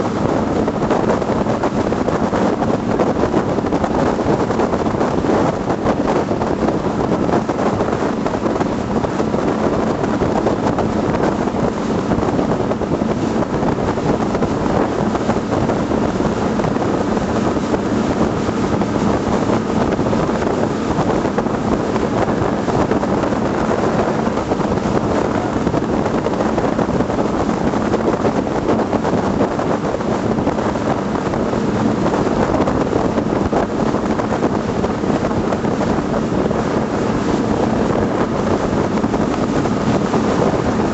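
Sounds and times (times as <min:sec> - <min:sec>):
boat engine drone: 0:00.0 - 0:40.9
rushing water: 0:00.0 - 0:40.9
wind buffeting microphone: 0:00.0 - 0:40.9.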